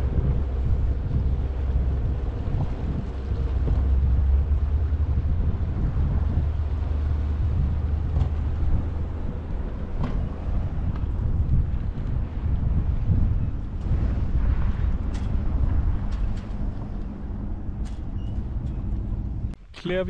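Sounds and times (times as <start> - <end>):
ferry engine rumble: 0.0 - 20.0.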